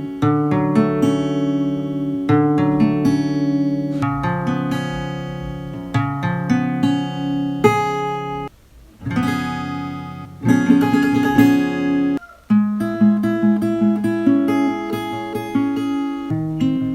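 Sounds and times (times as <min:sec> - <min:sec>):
acoustic guitar chords: 0:00.0 - 0:16.9.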